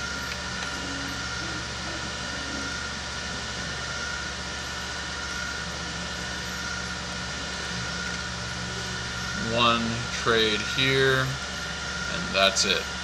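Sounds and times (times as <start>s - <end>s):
faint high whine: 0.0s - 13.0s
machine hum and hiss: 0.0s - 13.0s.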